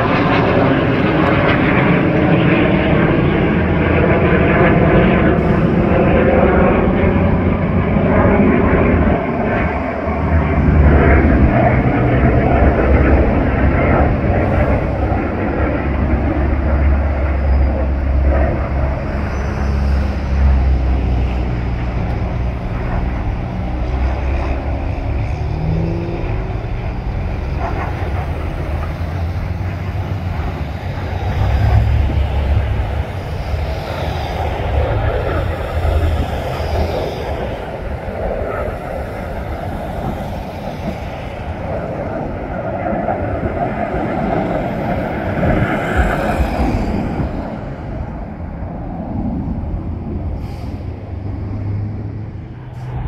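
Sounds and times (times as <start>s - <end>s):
aircraft engines droning overhead: 0.0s - 53.0s.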